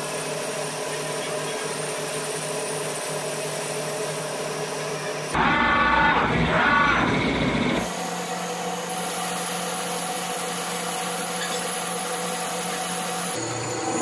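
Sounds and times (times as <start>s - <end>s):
lathe cutting metal: 0.0s - 14.0s.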